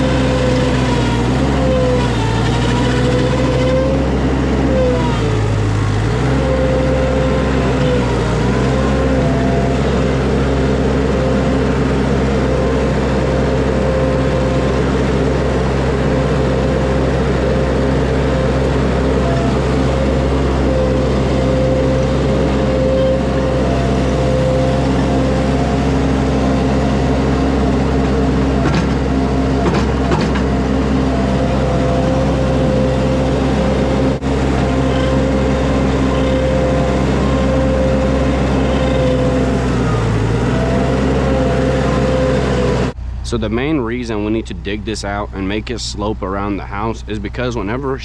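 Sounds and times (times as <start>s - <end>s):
diesel engine running: 0.0s - 48.0s
steady whine: 0.0s - 48.0s.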